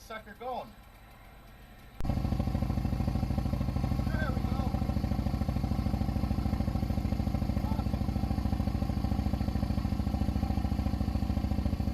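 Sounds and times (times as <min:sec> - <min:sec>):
motorcycle engine idling: 0:00.8 - 0:11.9.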